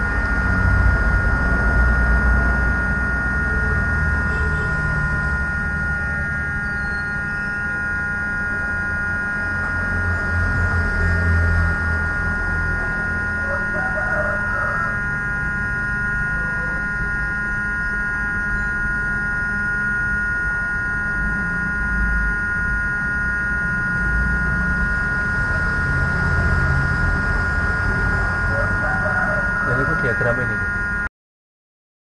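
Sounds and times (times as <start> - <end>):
electrical hum with high whine: 0.0 - 31.1.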